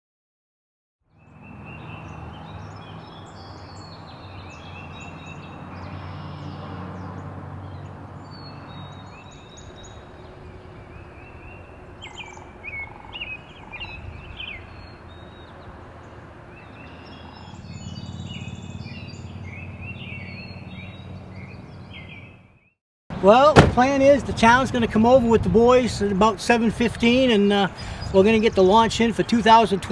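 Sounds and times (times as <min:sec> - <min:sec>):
birds singing and chirping: 0:01.1 - 0:22.8, 0:23.6 - 0:29.9.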